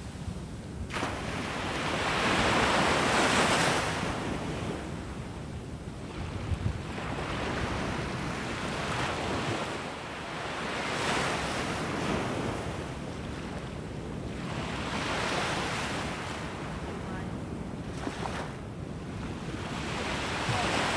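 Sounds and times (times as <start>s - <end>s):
wind rumbling on microphone: 0.0s - 20.9s
small waves breaking on sand: 0.8s - 5.2s, 6.0s - 20.9s.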